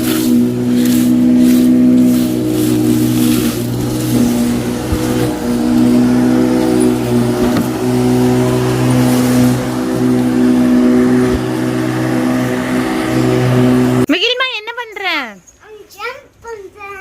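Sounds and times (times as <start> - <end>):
garden power tool motor running: 0.0 - 14.1.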